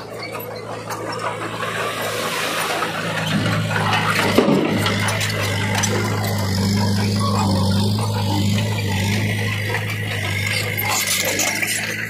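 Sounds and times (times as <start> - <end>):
bulldozer engine running: 0.0 - 12.0
dump truck diesel engine: 0.0 - 12.0
low engine hum: 0.0 - 12.0
broad rushing noise: 0.7 - 12.0.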